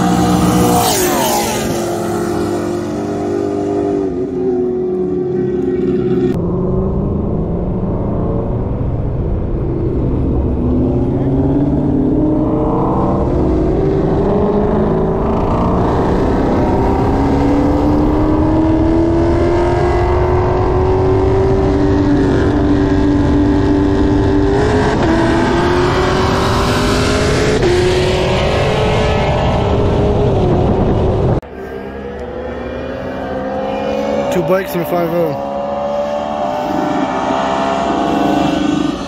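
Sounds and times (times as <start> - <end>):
car engine at full throttle: 0.0 - 39.0.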